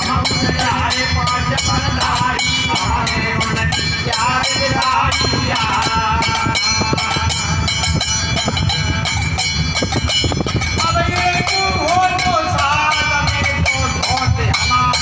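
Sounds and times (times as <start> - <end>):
man singing: 0.0 - 8.0, 10.7 - 15.0
steel plate struck rhythmically: 0.0 - 15.0.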